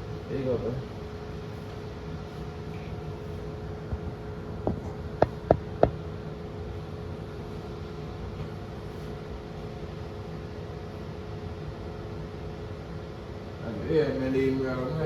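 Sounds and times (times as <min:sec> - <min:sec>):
droning motor hum: 0:00.0 - 0:15.0.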